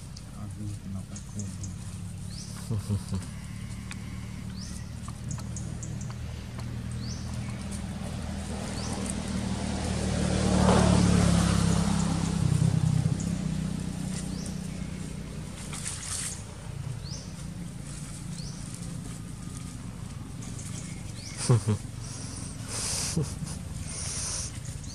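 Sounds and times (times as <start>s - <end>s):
vehicle engine passing by: 0.0s - 24.9s.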